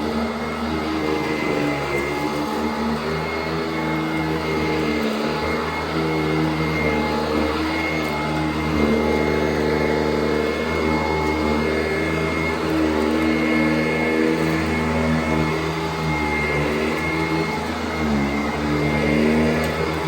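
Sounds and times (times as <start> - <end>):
upright vacuum on carpet: 0.0 - 20.0.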